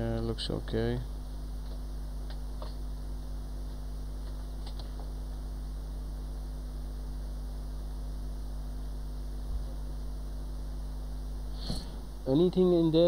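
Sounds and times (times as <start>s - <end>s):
constant hiss: 0.0s - 13.0s
low electrical hum: 0.0s - 13.0s.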